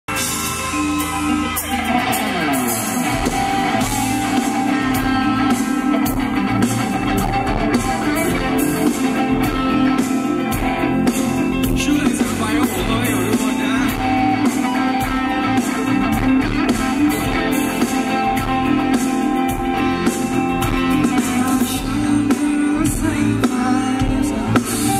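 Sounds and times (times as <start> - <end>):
rock band playing: 0.0 - 24.9
electric guitar: 0.1 - 24.9.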